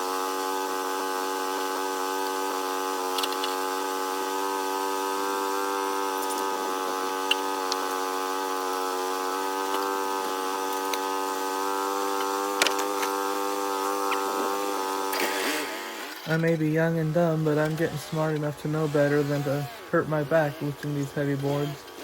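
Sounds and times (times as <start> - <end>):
sawmill engine running: 0.0 - 22.0.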